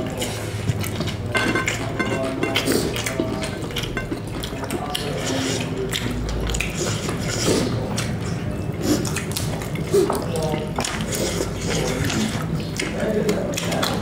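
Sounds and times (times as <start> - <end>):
chewing and mouth smacking: 0.0 - 14.0
fingers working food on plates: 0.0 - 14.0.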